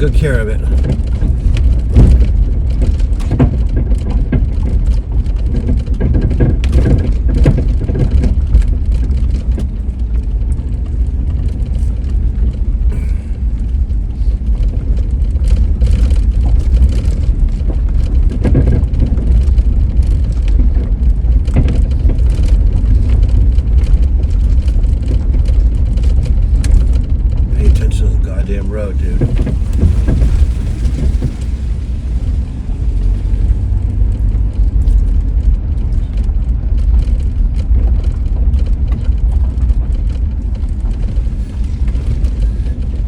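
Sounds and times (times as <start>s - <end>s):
truck engine and tyres rumbling: 0.0s - 43.0s
truck knocks and rattles: 0.0s - 43.0s.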